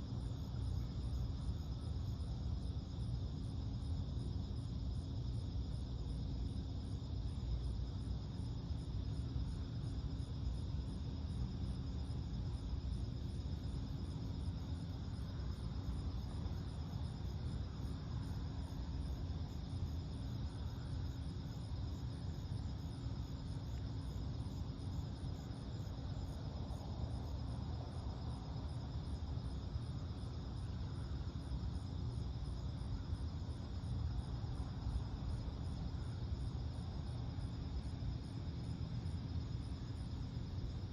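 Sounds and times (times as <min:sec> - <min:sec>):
night insects chirping: 0:00.0 - 0:40.9.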